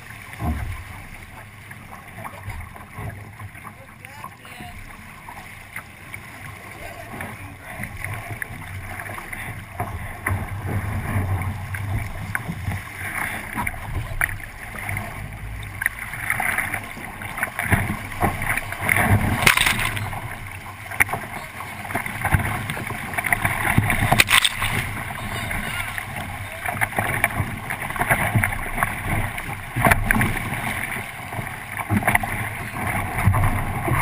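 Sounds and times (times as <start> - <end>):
water rushing along a hull: 0.0 - 34.0.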